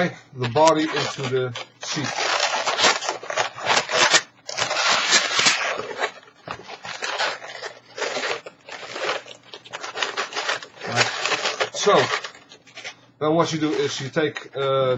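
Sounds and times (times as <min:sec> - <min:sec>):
balloons rubbing together: 0:00.6 - 0:14.1.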